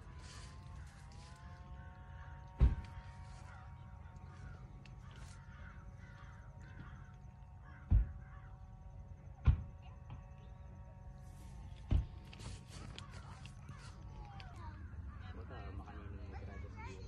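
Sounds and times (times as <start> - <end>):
crows cawing: 0.0 - 9.3, 11.4 - 16.1
steady low rumble: 0.0 - 16.9.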